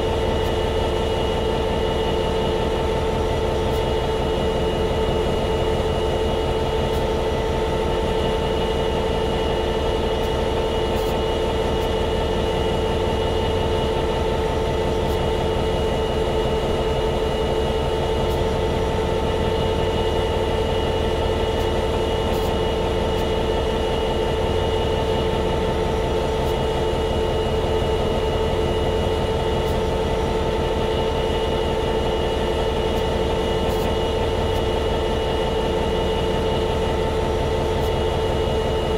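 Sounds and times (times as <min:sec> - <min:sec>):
diesel locomotive idling: 0:00.0 - 0:38.9.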